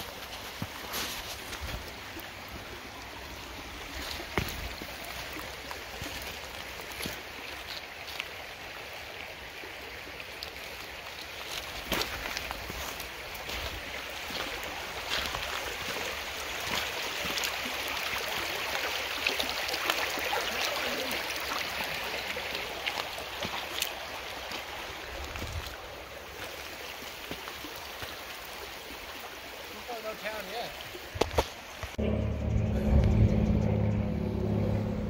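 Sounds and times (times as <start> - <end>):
creek water rushing over pebbles: 0.0 - 32.0.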